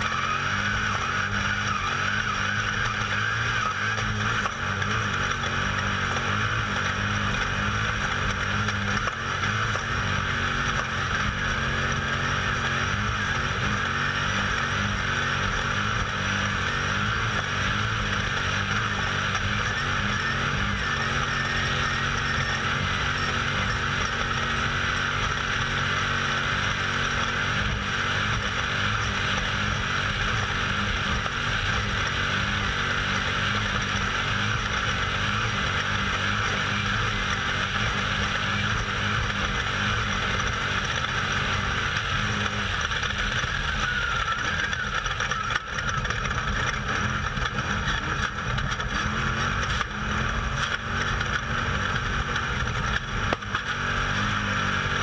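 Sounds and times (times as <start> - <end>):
race vehicle engine running hard: 0.0 - 55.0.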